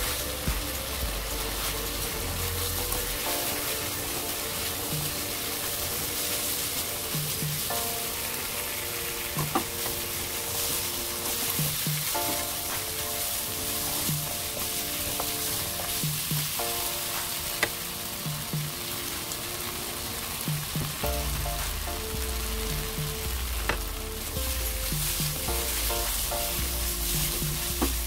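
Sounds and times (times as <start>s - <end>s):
background music with beat: 0.0s - 28.0s
glaze sizzling in frying pan: 0.0s - 28.0s.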